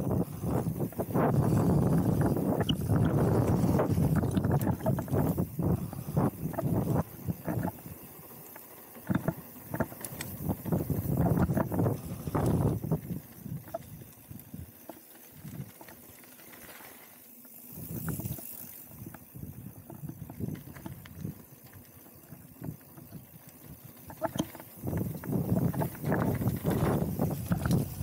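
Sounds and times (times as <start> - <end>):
bike knocking and rattling: 0.0 - 28.0
bike tyre rumble on dirt: 0.0 - 28.0.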